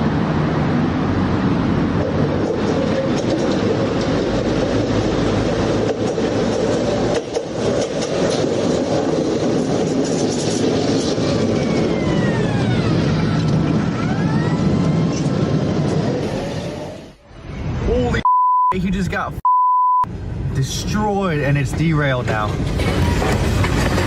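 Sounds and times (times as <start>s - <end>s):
train wheels rumbling and rattling: 0.0s - 17.1s, 20.2s - 24.0s.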